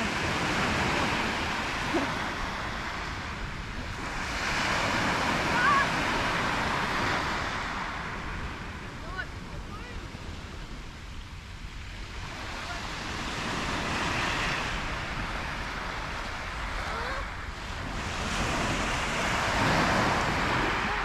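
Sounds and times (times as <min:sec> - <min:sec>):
small waves breaking on shore: 0:00.0 - 0:21.0.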